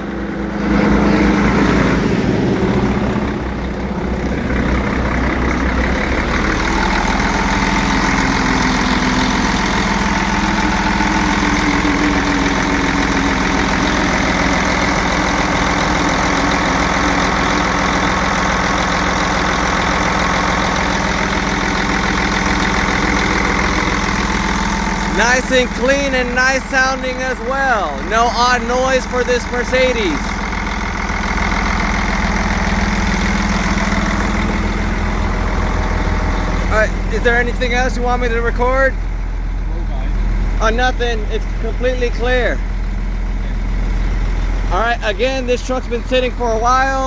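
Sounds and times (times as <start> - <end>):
diesel truck engine idling: 0.0 - 47.0.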